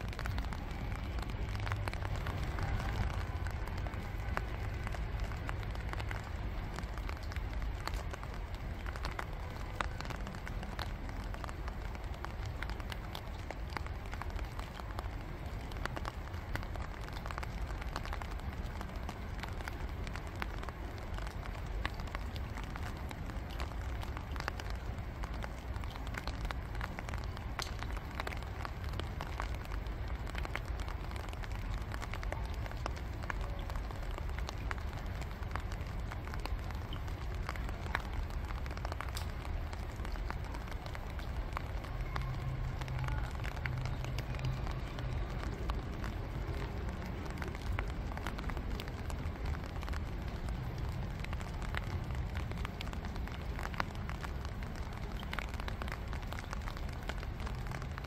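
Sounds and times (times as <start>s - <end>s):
rain hissing: 0.0s - 58.0s
drops ticking on water: 0.1s - 56.9s.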